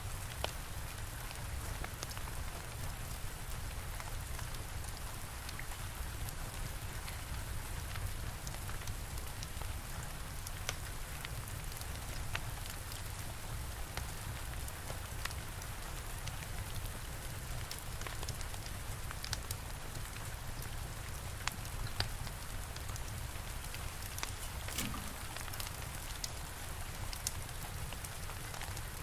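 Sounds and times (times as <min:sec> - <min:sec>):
steady rain hissing: 0:00.0 - 0:29.0
fire crackling and popping: 0:00.2 - 0:29.0.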